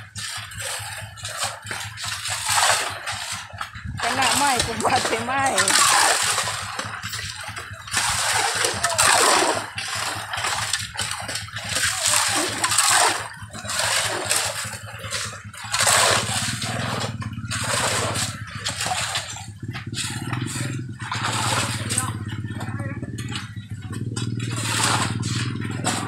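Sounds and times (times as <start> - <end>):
engine running: 0.0 - 26.0
shovels scraping wet gravel: 0.0 - 26.0.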